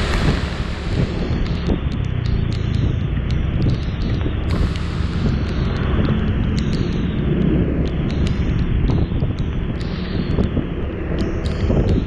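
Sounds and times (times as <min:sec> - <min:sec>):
scooter engine humming: 0:00.0 - 0:12.0
wind buffeting microphone: 0:00.0 - 0:12.0
faint ticks: 0:01.3 - 0:12.0.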